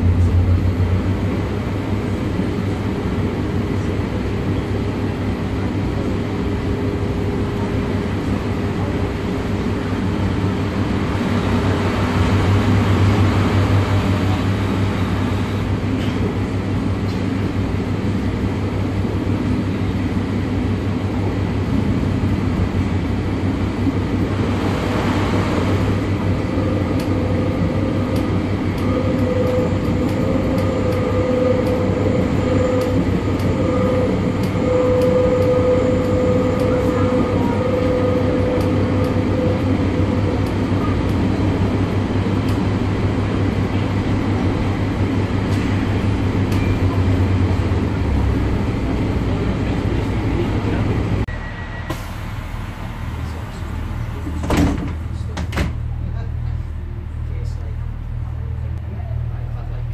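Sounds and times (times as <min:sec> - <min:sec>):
steady whine: 0:00.0 - 0:55.3
train rumbling on rails: 0:00.0 - 0:59.9.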